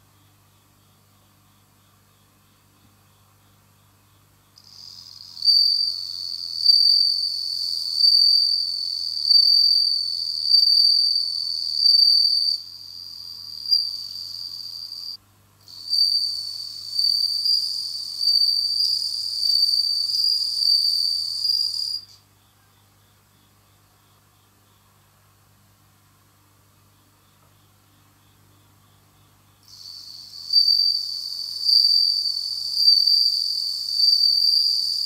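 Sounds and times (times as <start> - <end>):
cricket high ringing trill: 0.2 - 24.8, 26.9 - 35.0.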